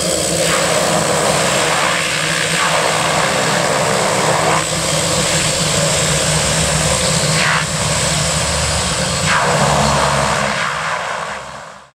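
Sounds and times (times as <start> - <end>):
turboprop engines running: 0.0 - 11.9.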